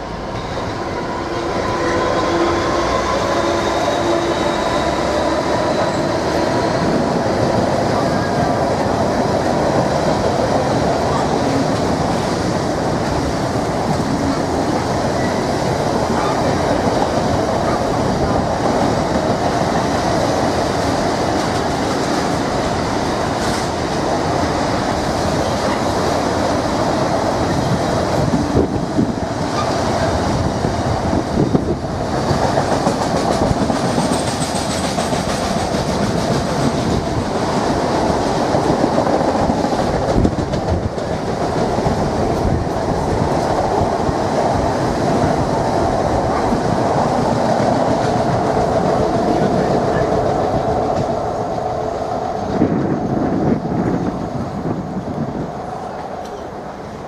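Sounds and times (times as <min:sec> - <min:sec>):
freight train rolling on rails: 0:00.0 - 0:57.0.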